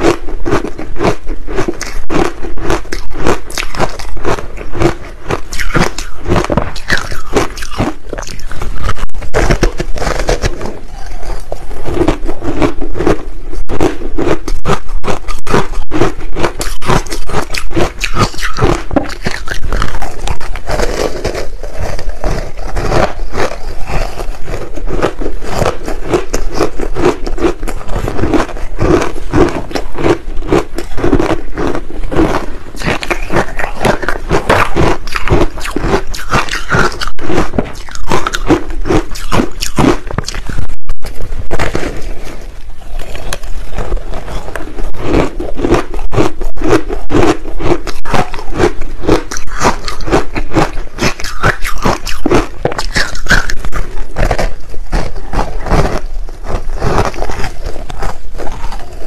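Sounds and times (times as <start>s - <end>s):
chewing ice with wet crunches: 0.0s - 59.0s.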